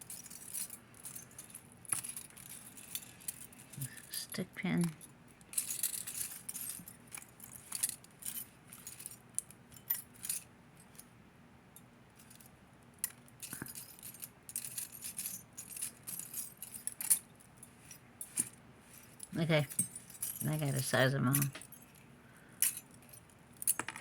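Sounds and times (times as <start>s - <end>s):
metal rings clinking: 0.0s - 11.1s, 11.8s - 24.0s.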